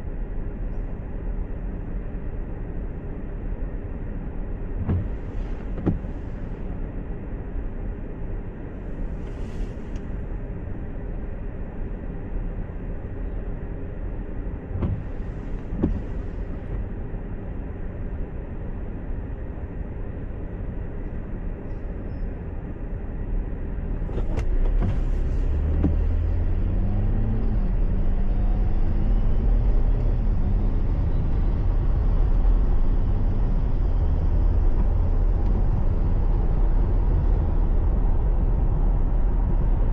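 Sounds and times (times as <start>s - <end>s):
car engine and road noise: 0.0s - 39.9s
low engine drone: 0.0s - 39.9s.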